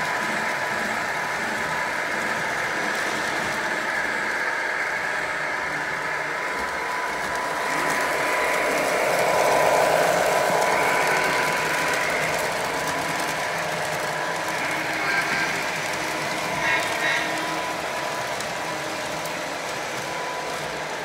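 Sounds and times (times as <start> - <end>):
model trains whirring and rattling: 0.0 - 21.0.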